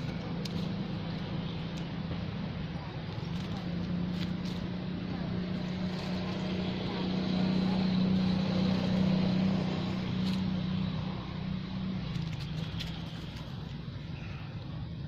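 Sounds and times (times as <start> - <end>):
motor engine running: 0.0 - 13.8.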